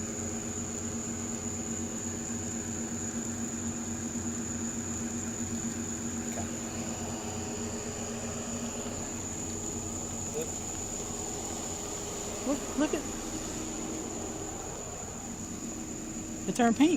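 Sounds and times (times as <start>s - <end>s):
high-pitched whine: 0.0s - 16.9s
vehicle engine idling: 0.0s - 16.9s.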